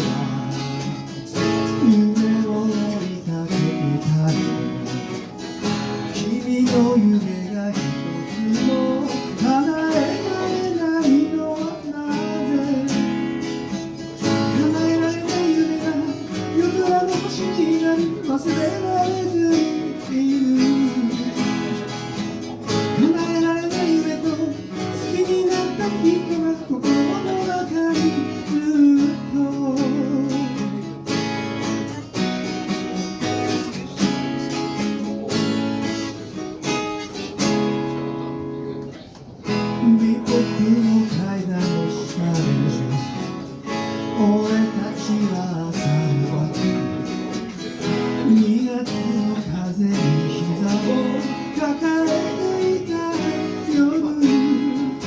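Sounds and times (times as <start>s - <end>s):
man singing: 0.0s - 36.4s, 39.4s - 55.0s
acoustic guitar strumming: 0.0s - 55.0s.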